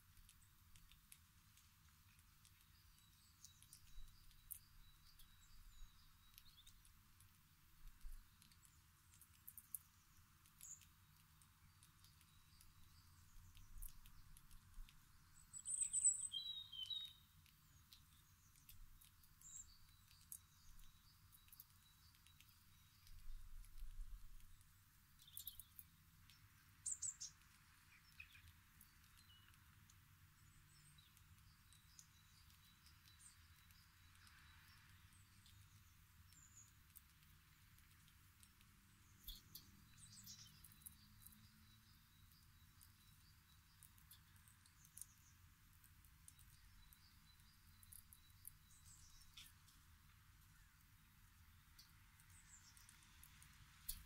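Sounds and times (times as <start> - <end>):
faint bird chirps: 0.0 - 54.0
faint clicks: 0.0 - 54.0.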